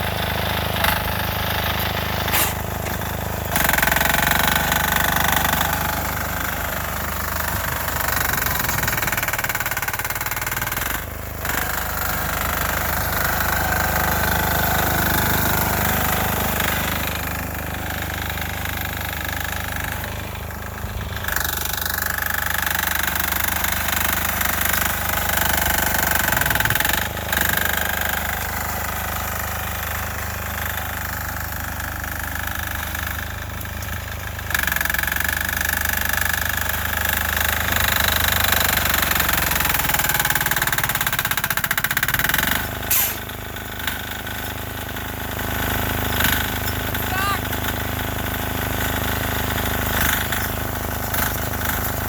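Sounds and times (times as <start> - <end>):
diesel tractor engine knocking: 0.0 - 52.0.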